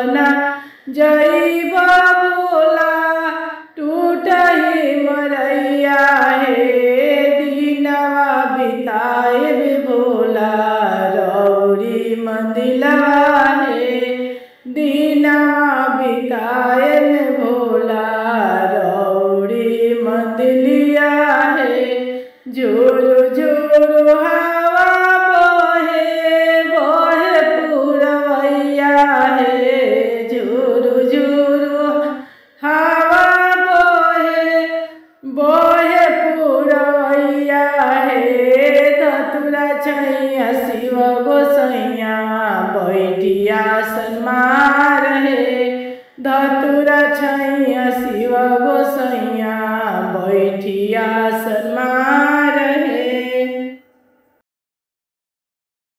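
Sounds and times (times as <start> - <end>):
woman singing devotional song: 0.0 - 53.9.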